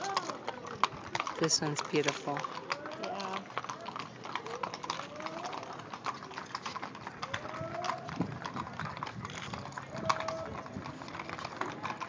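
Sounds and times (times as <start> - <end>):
hooves clopping on hard ground: 0.0 - 12.0.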